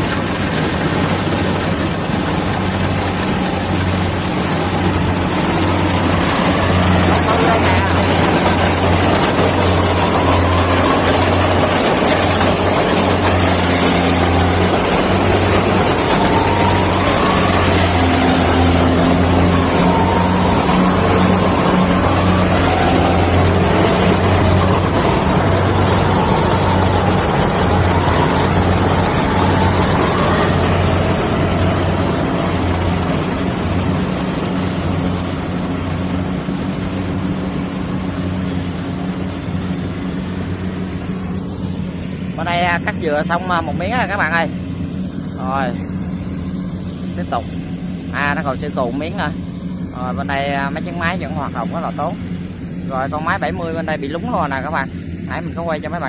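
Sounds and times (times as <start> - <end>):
dense rushing threshing noise: 0.0 - 56.0
harvester engine drone: 0.0 - 56.0.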